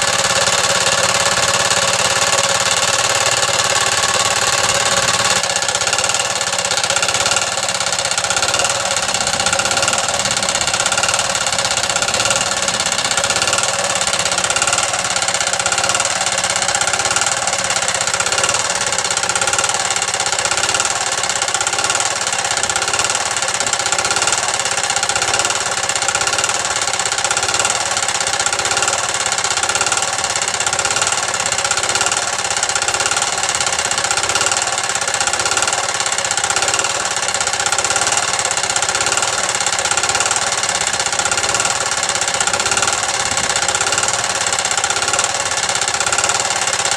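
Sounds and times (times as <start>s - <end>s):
air compressor engine chugging: 0.0s - 46.9s.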